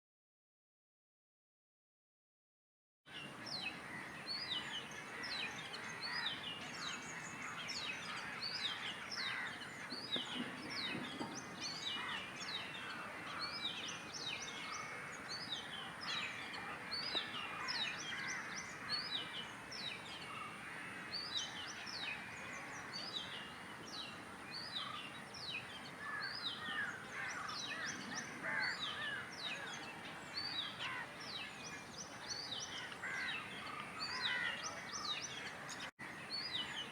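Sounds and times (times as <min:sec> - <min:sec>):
low chattering bird calls: 0:03.2 - 0:36.9.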